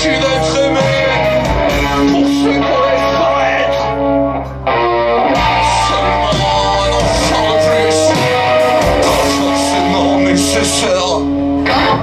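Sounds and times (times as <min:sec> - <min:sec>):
electric guitar: 0:00.0 - 0:12.0
live rock band playing: 0:00.0 - 0:12.0.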